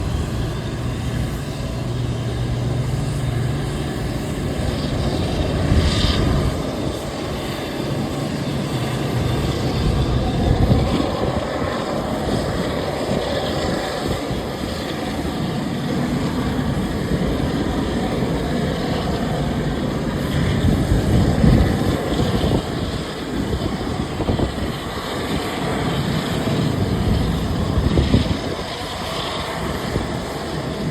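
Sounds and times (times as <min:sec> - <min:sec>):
jet engine drone: 0:00.0 - 0:30.9.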